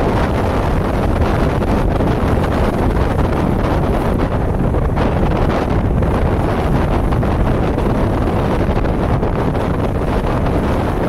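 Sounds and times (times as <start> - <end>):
waves breaking and splashing: 0.0 - 11.0
wind buffeting microphone: 0.0 - 11.0.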